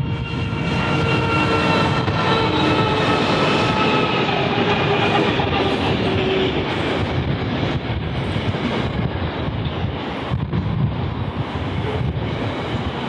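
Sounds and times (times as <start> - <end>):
diesel locomotive engine: 0.0 - 13.0.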